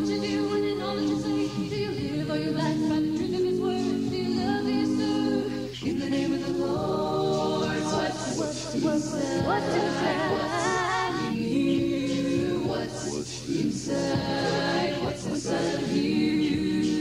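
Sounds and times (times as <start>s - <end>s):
vocal group singing in harmony: 0.0s - 17.0s.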